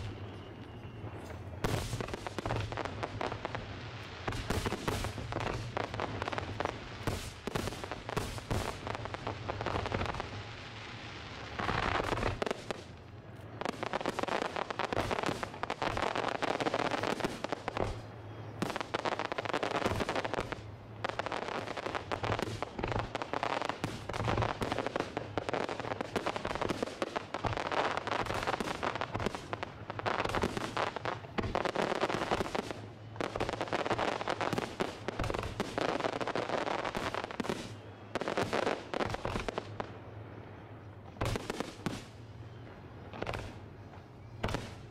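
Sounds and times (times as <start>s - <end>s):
firework crackle: 0.0s - 44.9s.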